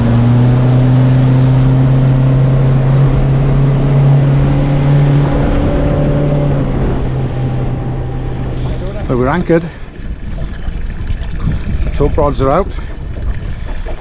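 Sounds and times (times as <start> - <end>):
motorboat engine drone: 0.0 - 11.9
rushing water: 0.0 - 14.0
rushing wind: 0.0 - 14.0.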